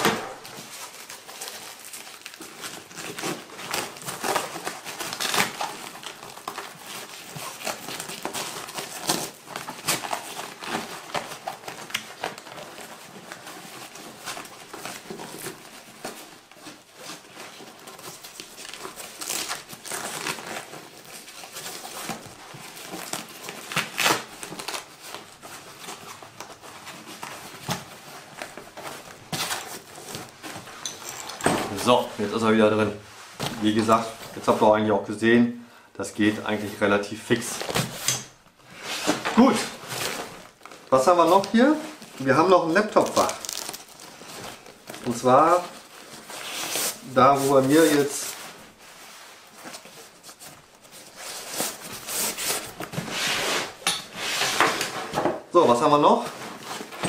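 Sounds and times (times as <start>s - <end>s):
backpack fabric rustling and crinkling: 0.0s - 34.8s, 36.3s - 57.0s.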